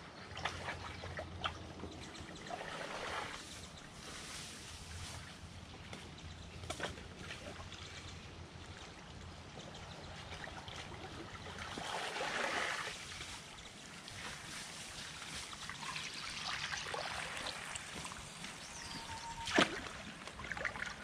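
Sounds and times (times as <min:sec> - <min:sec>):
water trickling and splashing: 0:00.0 - 0:21.0.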